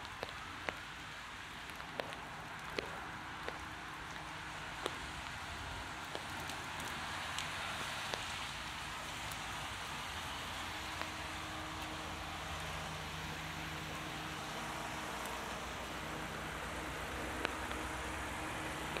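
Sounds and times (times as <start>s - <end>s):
heavy rain falling: 0.0s - 19.0s
low vehicle engine hum: 0.0s - 19.0s
raindrops ticking: 0.0s - 19.0s.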